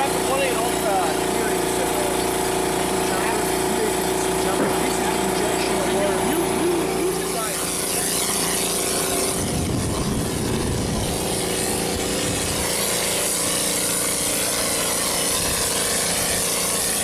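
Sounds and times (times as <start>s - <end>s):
pump mixer humming: 0.0s - 17.0s
compressed air hissing: 1.7s - 17.0s.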